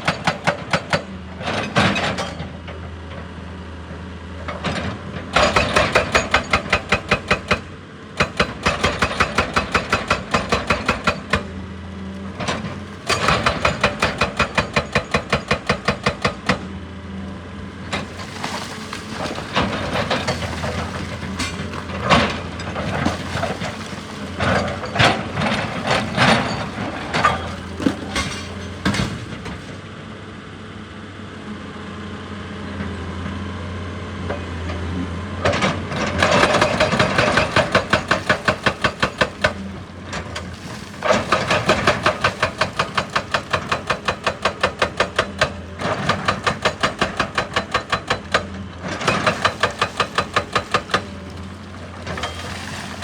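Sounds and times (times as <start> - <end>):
hydraulic breaker hammering rock: 0.0 - 2.4, 4.7 - 11.6, 12.2 - 16.8, 17.5 - 29.8, 36.0 - 53.0.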